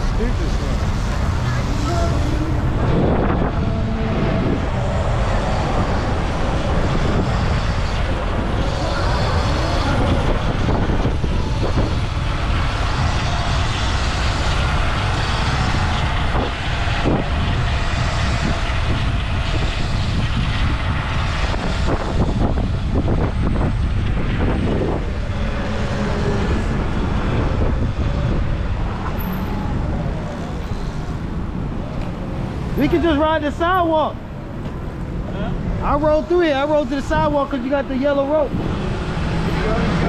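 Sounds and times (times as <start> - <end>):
city traffic noise: 0.0 - 40.0
wind rumble on microphone: 0.0 - 40.0.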